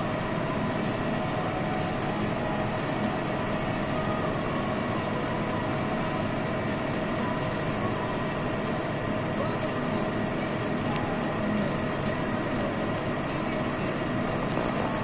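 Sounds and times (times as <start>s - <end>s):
thin steady whine: 0.0s - 15.0s
tractor engine droning: 0.0s - 15.0s.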